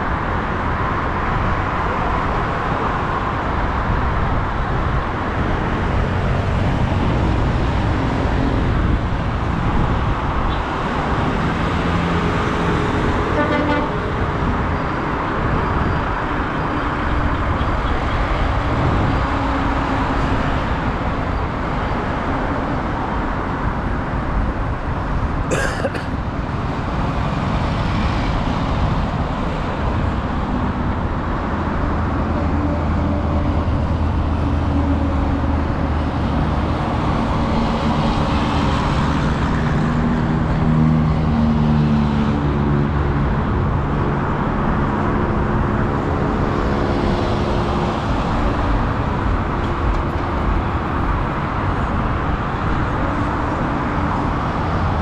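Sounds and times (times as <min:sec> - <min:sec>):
highway traffic passing: 0:00.0 - 0:55.0.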